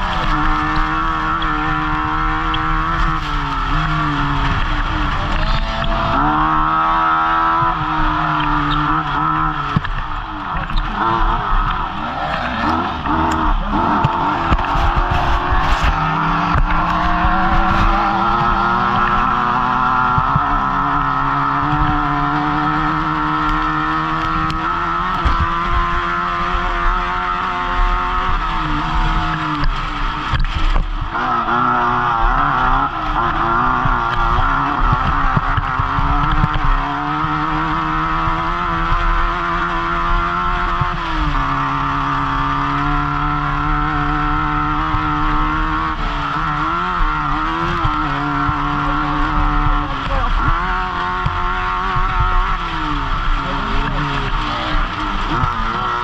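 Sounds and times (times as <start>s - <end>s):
car rattling over rough ground: 0.0s - 56.0s
race car engine revving: 0.0s - 56.0s.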